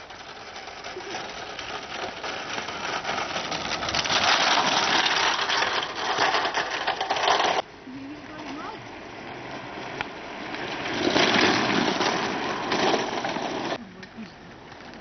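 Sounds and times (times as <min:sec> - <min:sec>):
kart wheels rattling on asphalt: 0:00.0 - 0:13.8.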